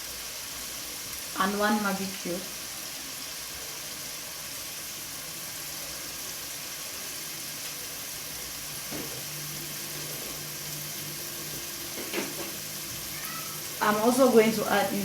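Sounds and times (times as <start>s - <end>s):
sauce sizzling in oil: 0.0s - 15.0s.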